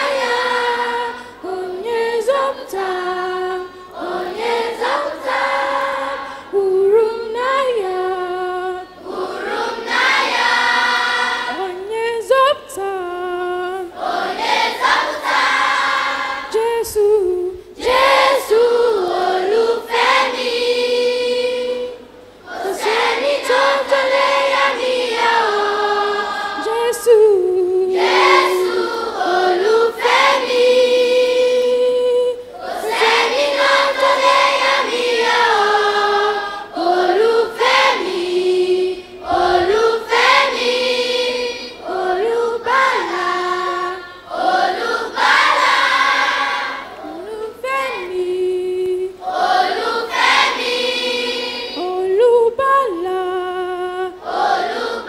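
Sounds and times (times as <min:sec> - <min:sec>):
children's choir singing: 0:00.0 - 0:55.0.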